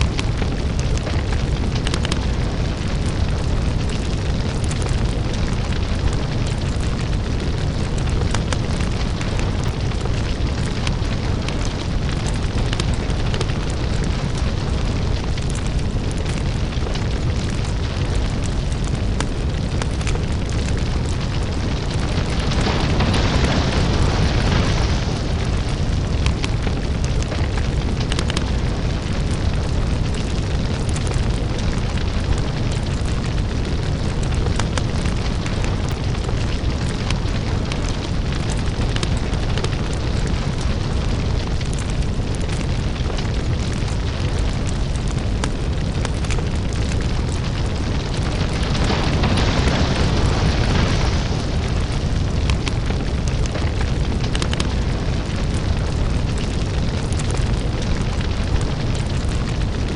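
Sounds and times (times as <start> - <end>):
crackling and popping fire: 0.0 - 59.9
deep steady rumble: 0.0 - 59.9.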